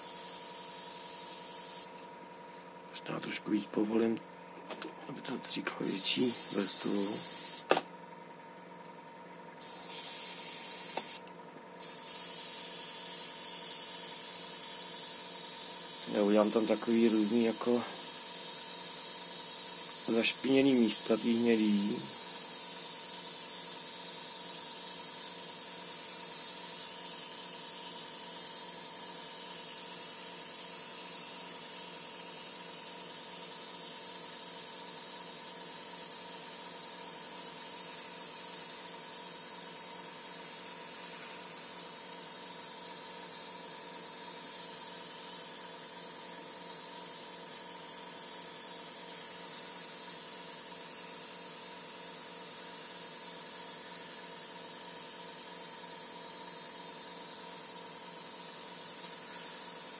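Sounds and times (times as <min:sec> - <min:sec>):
airbrush spraying hiss: 0:00.0 - 0:02.0, 0:05.3 - 0:07.8, 0:09.6 - 0:59.9.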